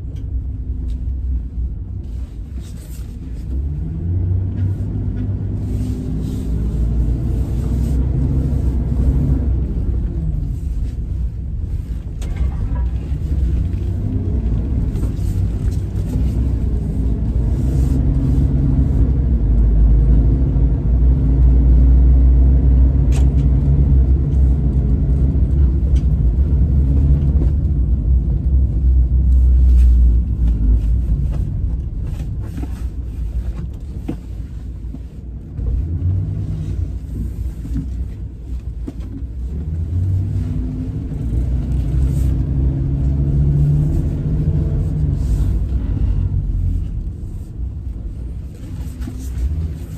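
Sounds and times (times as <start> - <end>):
truck engine and road rumble: 0.0 - 49.9.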